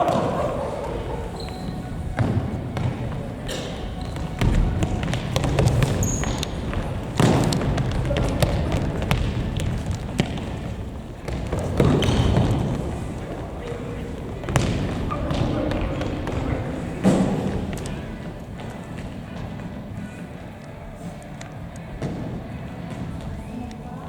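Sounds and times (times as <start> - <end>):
general noise of play: 0.0 - 24.0.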